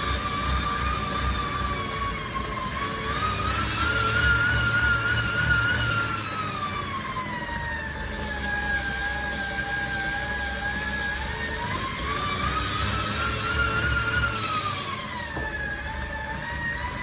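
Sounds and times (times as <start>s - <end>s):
turbo trainer grinding whine: 0.0s - 17.0s.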